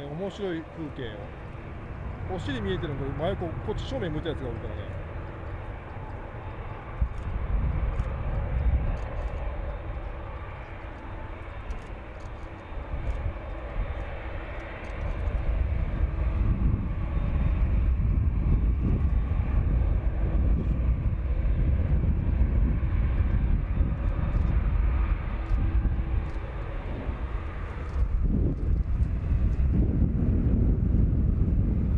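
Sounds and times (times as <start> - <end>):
jet engine roar: 0.0 - 31.9.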